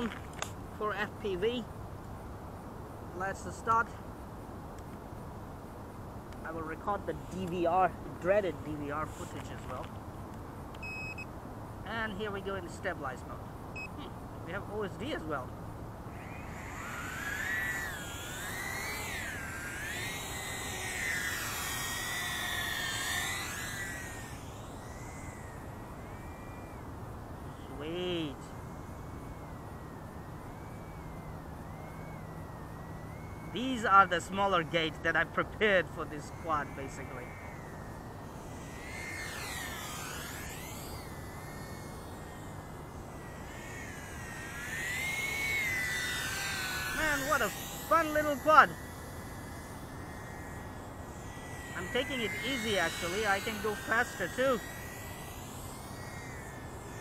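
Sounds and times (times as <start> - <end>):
quadcopter motors whining: 0.0 - 57.0
steady rushing noise: 11.4 - 57.0.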